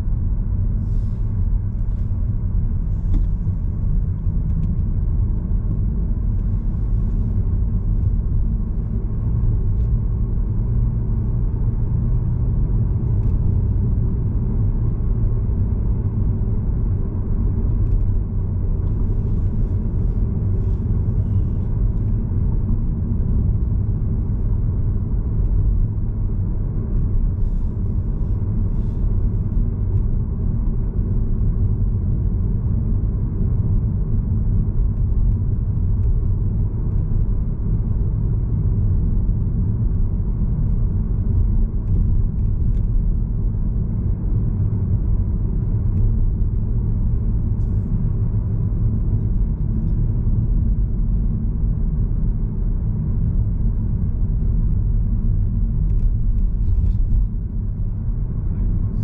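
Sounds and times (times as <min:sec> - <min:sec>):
road and tyre noise: 0:00.0 - 0:59.0.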